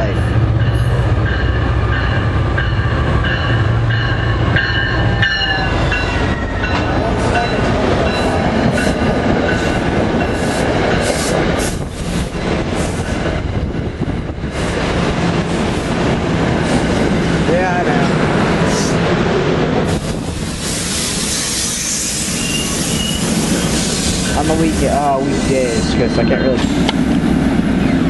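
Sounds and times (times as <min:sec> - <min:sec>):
rail clacks: 0:00.0 - 0:28.0
train wheels rushing on rails: 0:00.0 - 0:28.0.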